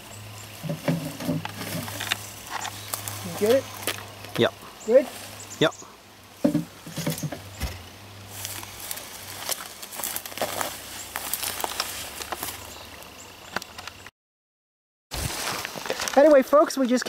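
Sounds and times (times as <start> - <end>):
footsteps through undergrowth: 0.0 - 5.7, 6.4 - 13.8, 15.2 - 17.0
leaves and twigs crackling: 0.0 - 14.1, 15.2 - 17.0.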